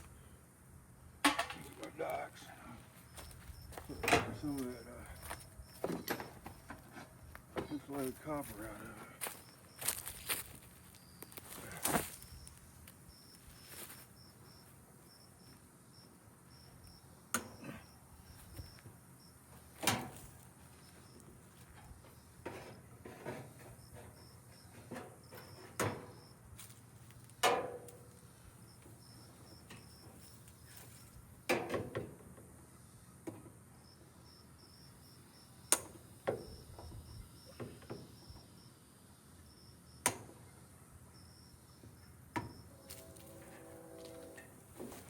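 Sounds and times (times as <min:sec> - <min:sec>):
crickets chirping: 0:00.0 - 0:31.4, 0:32.0 - 0:45.0.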